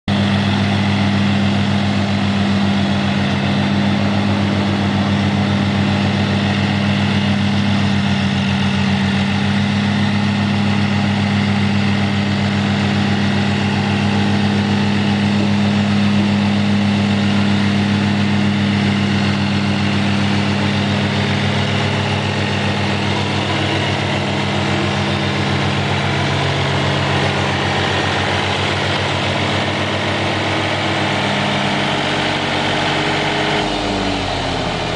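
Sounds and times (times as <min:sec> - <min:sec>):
woodchipper engine running: 0:00.1 - 0:34.9.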